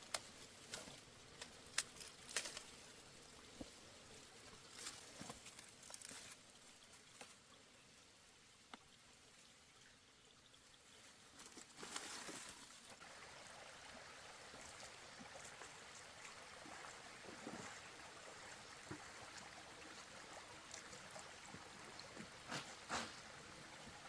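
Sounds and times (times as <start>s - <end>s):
faint trickling water: 0.0s - 24.0s.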